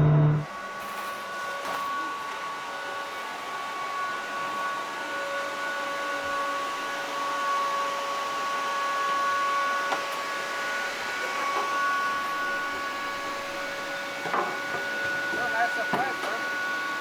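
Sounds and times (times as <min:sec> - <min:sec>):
electric drive whine: 0:00.0 - 0:17.0.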